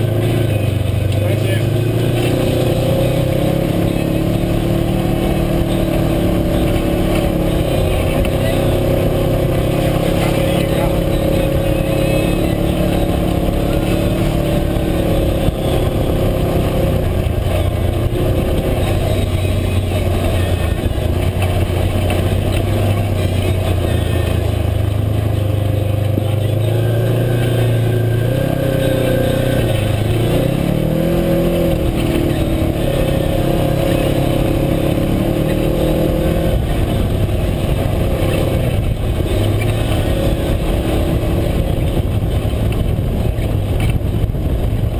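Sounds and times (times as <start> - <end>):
vehicle engine under load: 0.0 - 44.9.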